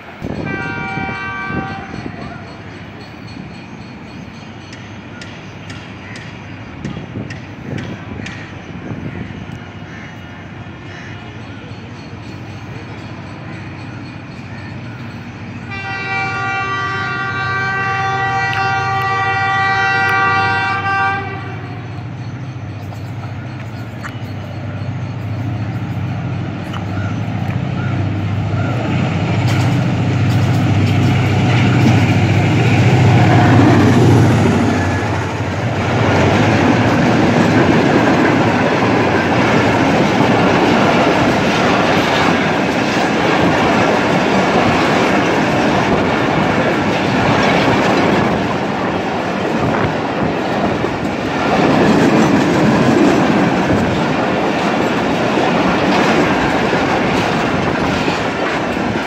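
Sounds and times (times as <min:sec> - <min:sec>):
diesel locomotive engine drone: 0:00.0 - 0:59.0
train wheels rumbling on rails: 0:00.0 - 0:59.0.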